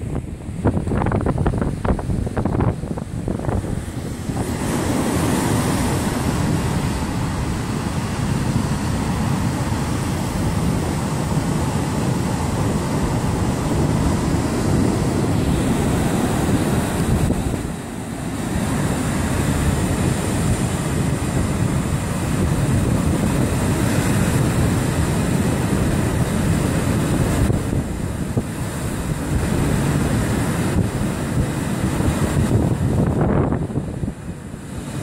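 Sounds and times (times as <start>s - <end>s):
waves breaking on beach: 0.0s - 35.0s
wind buffeting microphone: 0.0s - 35.0s.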